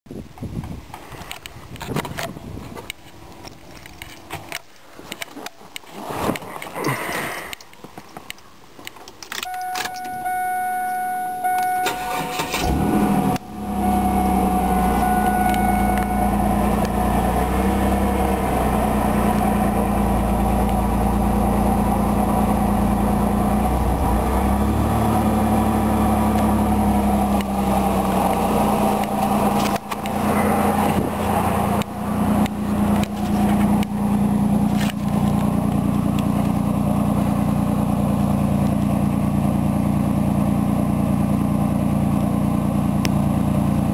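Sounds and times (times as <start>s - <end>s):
car engine cranking and idling: 7.5s - 43.9s.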